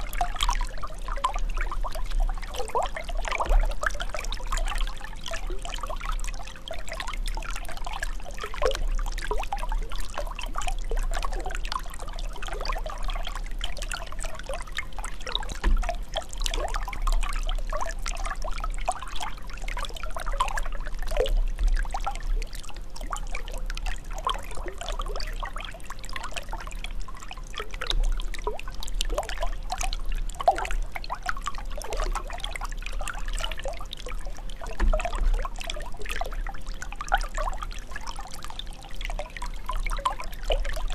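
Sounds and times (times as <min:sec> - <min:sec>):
water trickling and gurgling: 0:00.0 - 0:40.9.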